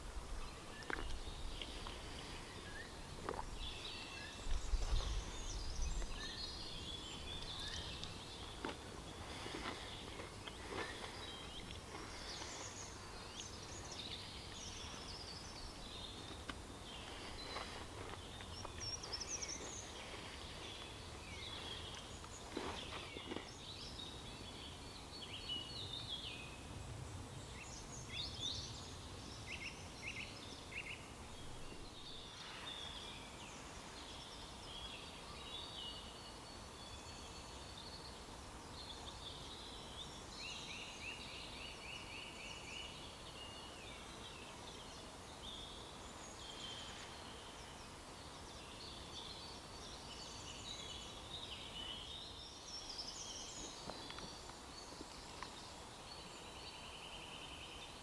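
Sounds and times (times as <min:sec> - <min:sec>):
songbirds chirping and warbling: 0:00.0 - 0:58.0.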